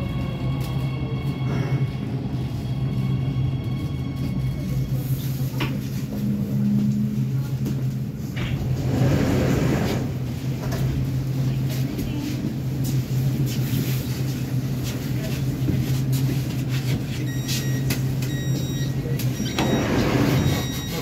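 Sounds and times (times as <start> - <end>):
train equipment low hum: 0.0 - 21.0.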